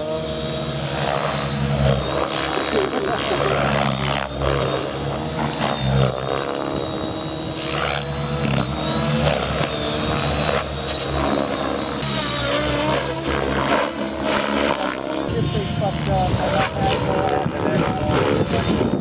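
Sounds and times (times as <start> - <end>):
model helicopter rotor and motor: 0.0 - 19.0
steady high whine: 0.0 - 19.0.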